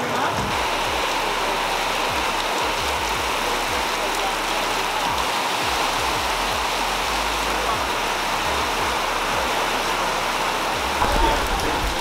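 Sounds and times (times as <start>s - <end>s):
rain on metal roofs: 0.0s - 12.0s.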